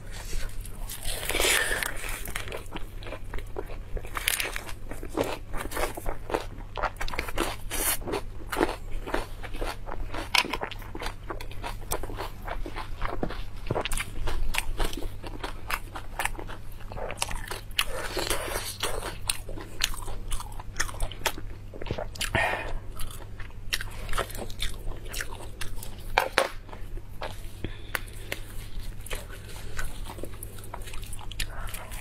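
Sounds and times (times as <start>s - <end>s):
chewing and crunching: 0.0s - 32.0s.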